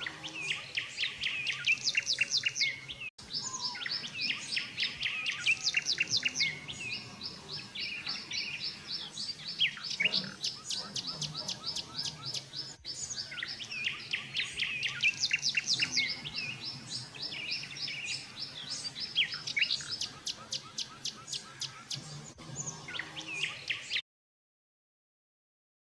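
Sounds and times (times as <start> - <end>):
songbirds chirping and singing: 0.0 - 24.0.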